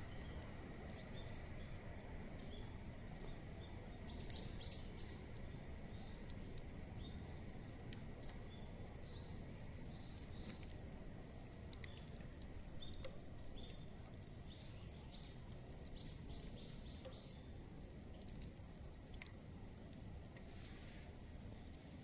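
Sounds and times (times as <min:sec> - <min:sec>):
small birds chirping: 0:00.0 - 0:18.5
low outdoor rumble: 0:00.0 - 0:22.0.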